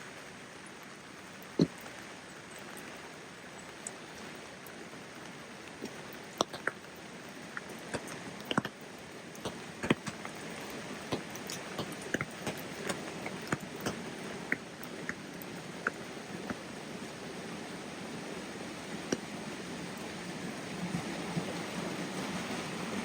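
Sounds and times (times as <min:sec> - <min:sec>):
rain hissing: 0:00.0 - 0:23.0
raindrops ticking close by: 0:00.0 - 0:23.0.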